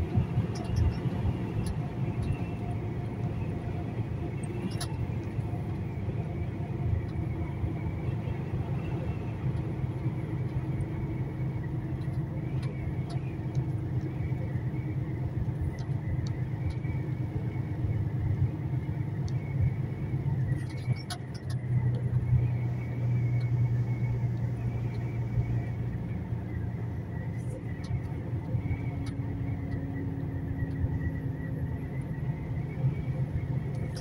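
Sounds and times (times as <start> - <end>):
road noise inside cab: 0.0 - 34.0
truck engine rumble: 0.0 - 34.0.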